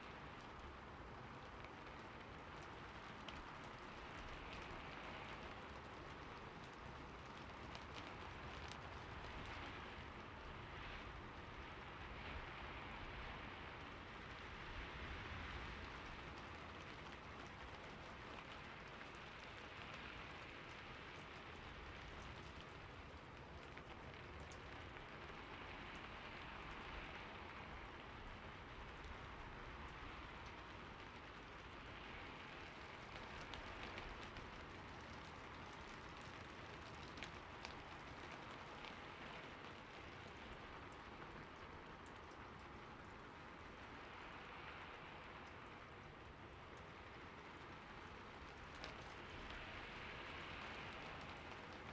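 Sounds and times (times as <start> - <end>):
rain falling on a roof: 0.0 - 51.9.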